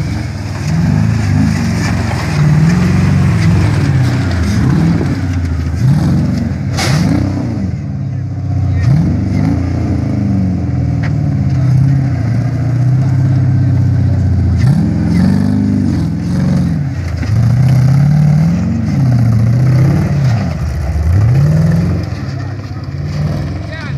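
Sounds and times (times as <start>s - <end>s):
buggy engine revving under load: 0.0s - 23.9s.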